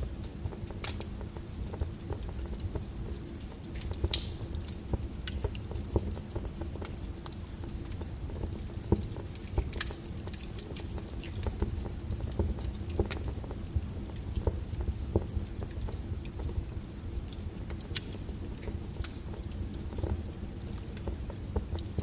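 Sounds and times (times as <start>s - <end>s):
crackles and pops of burning logs: 0.0s - 22.0s.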